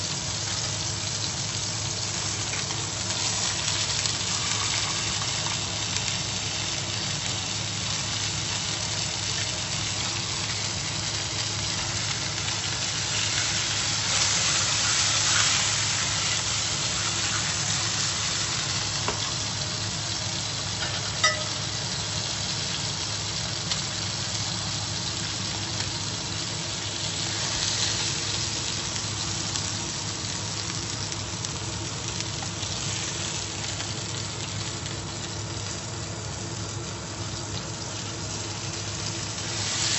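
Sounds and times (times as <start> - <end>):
steak sizzling in a frying pan: 0.0 - 39.9.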